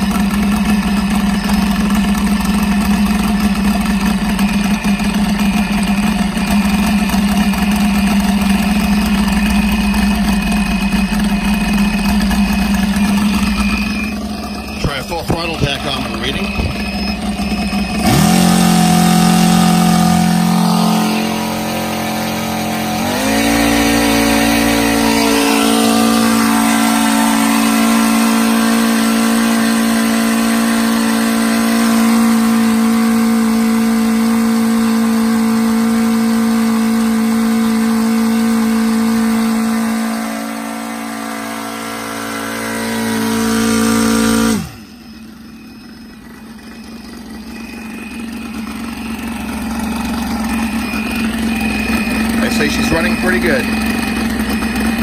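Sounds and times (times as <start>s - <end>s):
model aircraft engine running: 0.0s - 55.0s.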